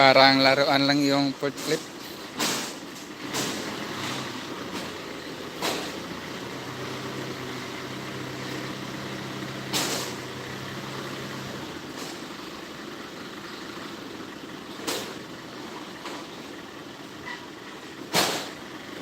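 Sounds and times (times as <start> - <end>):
forklift engine humming: 0.0 - 19.0
noisy working background: 0.0 - 19.0.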